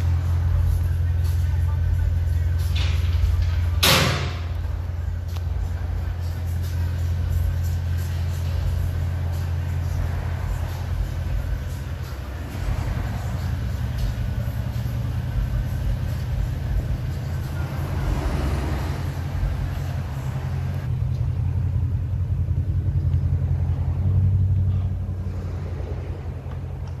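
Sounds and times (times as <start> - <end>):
car engine deep rumble: 0.0 - 27.0.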